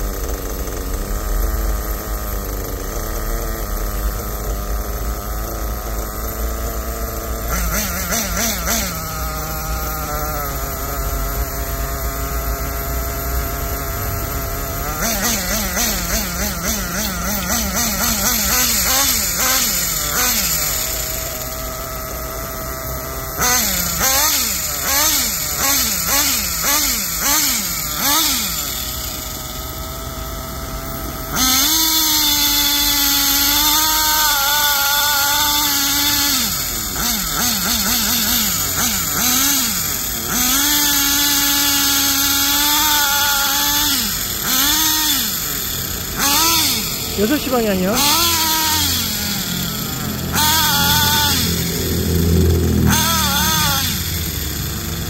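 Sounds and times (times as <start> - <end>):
small glow engine revving: 0.0 - 55.0.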